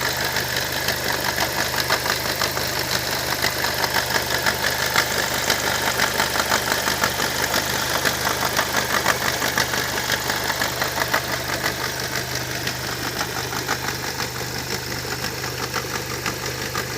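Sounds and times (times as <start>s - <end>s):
car engine idling: 0.0s - 16.9s
fast ticking engine rattle: 0.0s - 16.9s.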